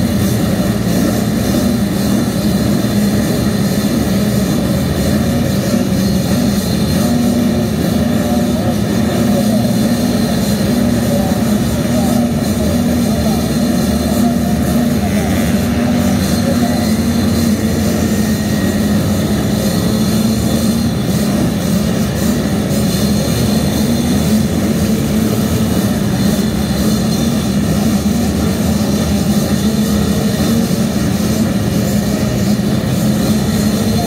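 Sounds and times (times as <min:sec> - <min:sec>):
motocross bike engines droning: 0:00.0 - 0:34.0.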